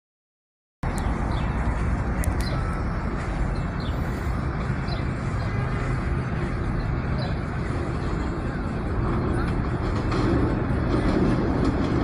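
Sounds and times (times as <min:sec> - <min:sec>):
traffic rumble: 0:00.8 - 0:12.0.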